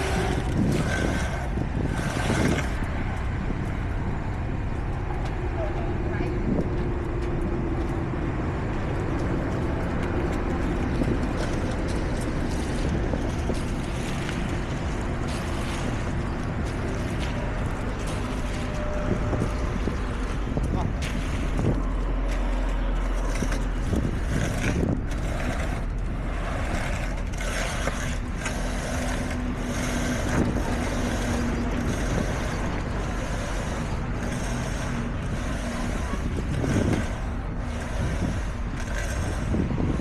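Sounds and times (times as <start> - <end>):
diesel machinery engine rumble: 0.0 - 40.0.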